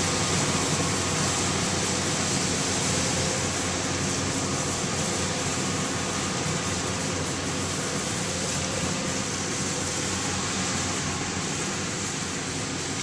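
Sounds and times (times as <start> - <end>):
combine harvester droning: 0.0 - 13.0.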